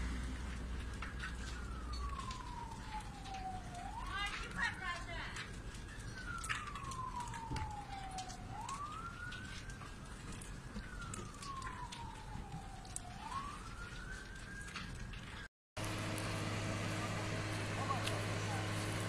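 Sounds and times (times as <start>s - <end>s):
emergency siren wailing: 0.0s - 19.0s.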